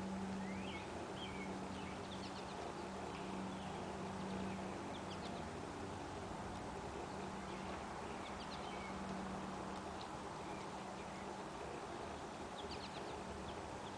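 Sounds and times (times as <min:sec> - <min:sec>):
outdoor background noise: 0:00.0 - 0:13.9
small birds chirping: 0:00.0 - 0:13.9
steady low hum: 0:00.0 - 0:13.9.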